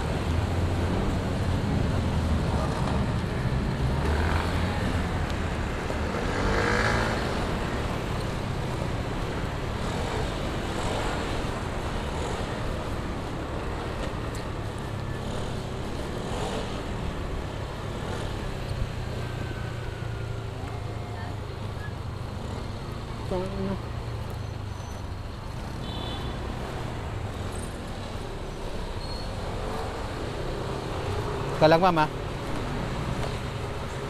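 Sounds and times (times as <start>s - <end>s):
vehicles passing: 0.0s - 34.0s
wind and road noise: 0.0s - 34.0s.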